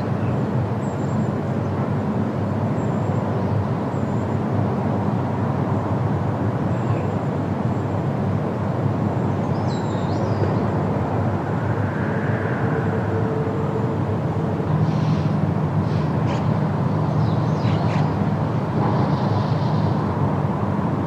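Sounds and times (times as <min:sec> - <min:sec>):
wind through trees: 0:00.0 - 0:21.0.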